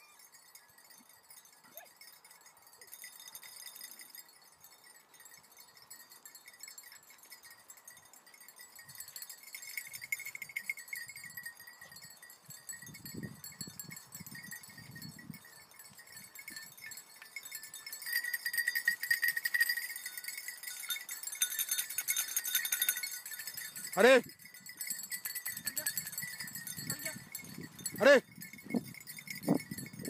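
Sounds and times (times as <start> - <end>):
dog collar bells jingling: 0.0 - 30.0.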